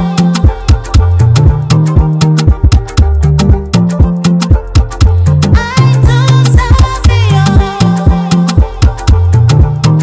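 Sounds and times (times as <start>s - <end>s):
afrobeat music with bass and drums: 0.0s - 10.0s.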